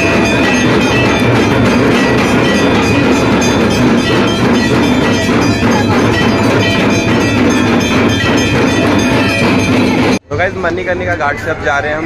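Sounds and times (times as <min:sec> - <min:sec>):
music with fast percussive beat: 0:00.0 - 0:10.2.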